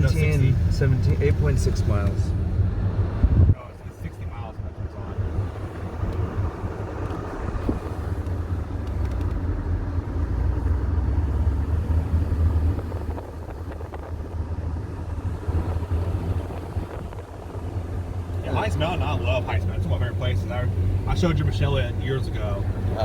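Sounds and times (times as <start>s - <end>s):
car cabin road and engine noise: 0.0s - 23.0s.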